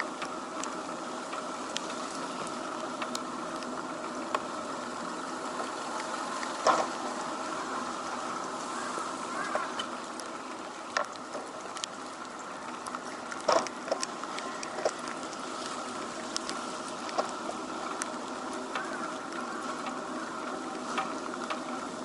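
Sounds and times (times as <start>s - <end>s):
rain pattering: 0.0s - 22.0s
street noise: 0.0s - 22.0s.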